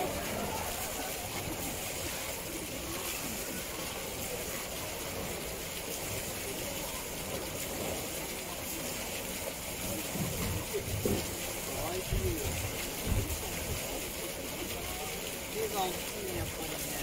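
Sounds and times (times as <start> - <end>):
faint murmuring voices: 0.0 - 17.0
running water: 0.0 - 17.0.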